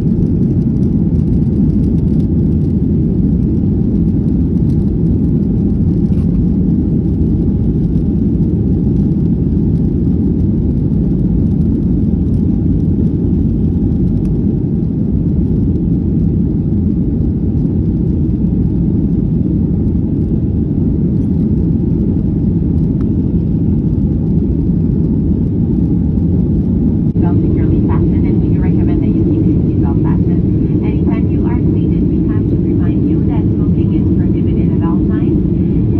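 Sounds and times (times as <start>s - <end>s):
airliner cabin engine rumble: 0.0s - 35.9s.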